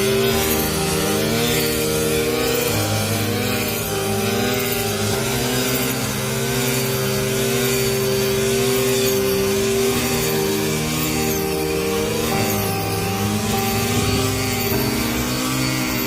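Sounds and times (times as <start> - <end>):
harvesting machine engine droning: 0.0 - 16.0.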